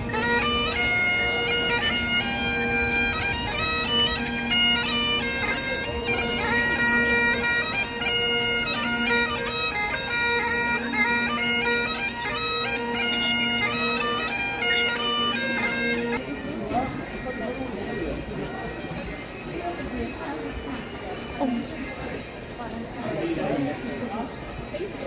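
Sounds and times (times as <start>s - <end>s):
bagpipes playing: 0.0s - 25.0s.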